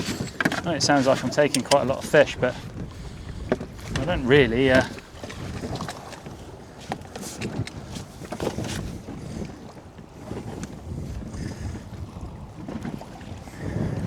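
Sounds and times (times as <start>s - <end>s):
water against boat hull: 0.0s - 14.0s
wind on microphone: 0.0s - 14.0s.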